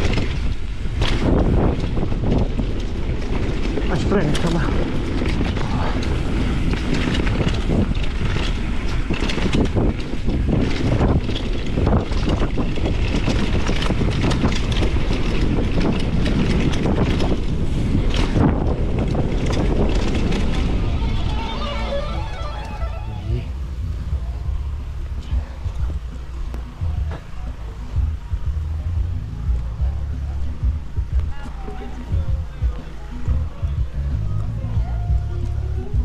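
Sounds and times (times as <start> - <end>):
bike knocks and rattles: 0.0 - 23.1, 25.2 - 36.0
tyres rumbling over dirt: 0.0 - 36.0
wind buffeting microphone: 0.0 - 36.0.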